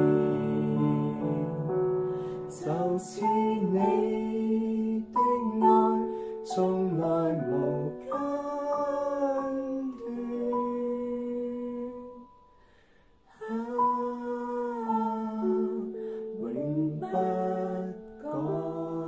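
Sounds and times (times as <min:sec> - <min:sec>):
slow worship song singing: 0:00.0 - 0:19.0.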